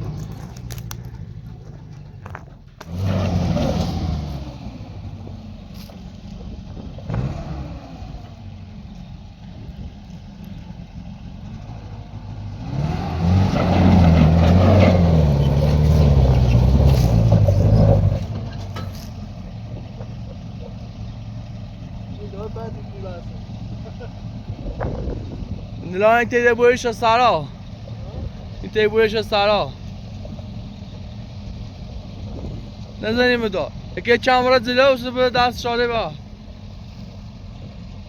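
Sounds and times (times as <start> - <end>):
vehicle engine revving: 0.0 - 38.0.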